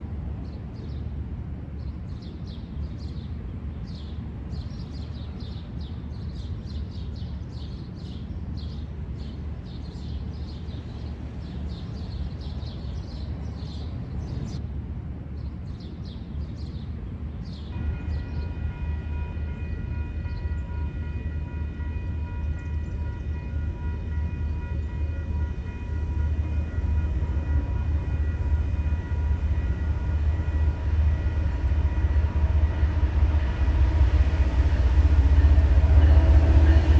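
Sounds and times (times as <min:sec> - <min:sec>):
diesel train rumble: 0:00.0 - 0:36.9.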